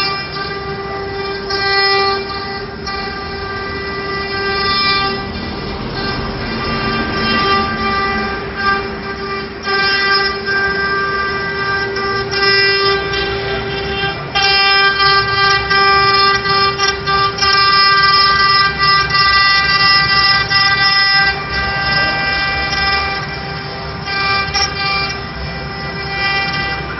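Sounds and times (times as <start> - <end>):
router spindles whining: 0.0 - 26.9.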